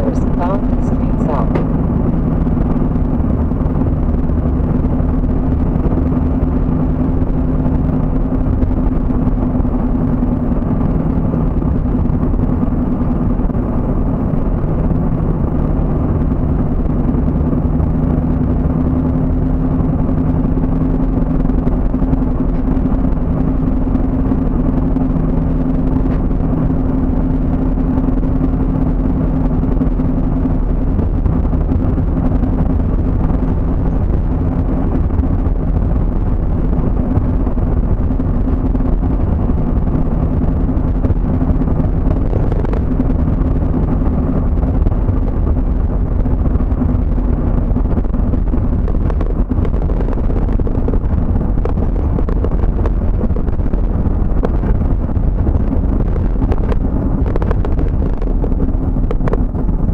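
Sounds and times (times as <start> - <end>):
low steady hum: 0.0 - 59.9
vehicle engine and road noise: 0.0 - 59.9.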